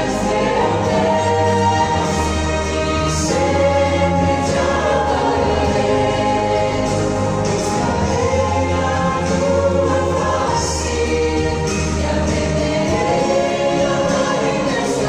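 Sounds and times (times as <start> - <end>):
choir singing sustained chords: 0.0 - 15.0
instrumental accompaniment: 0.0 - 15.0.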